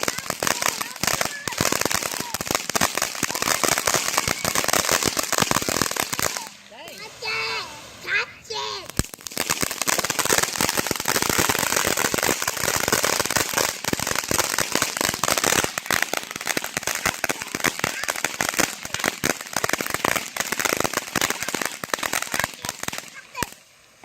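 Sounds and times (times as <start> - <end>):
firework crackling and popping: 0.0 - 24.0.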